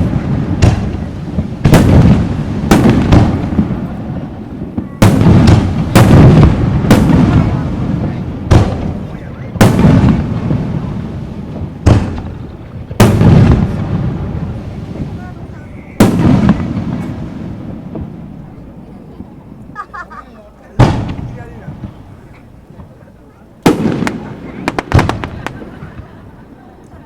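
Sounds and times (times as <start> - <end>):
firework shells booming: 0.0 - 26.8.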